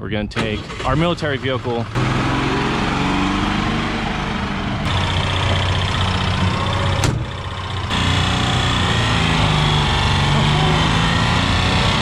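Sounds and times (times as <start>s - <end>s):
truck engine running: 0.6s - 12.0s.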